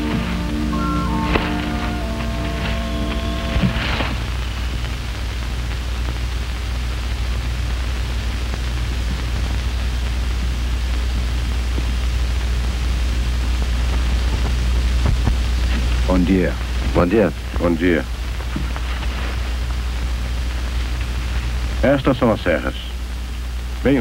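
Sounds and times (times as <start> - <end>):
low hum: 0.0 - 21.8
film soundtrack hiss: 0.0 - 24.0.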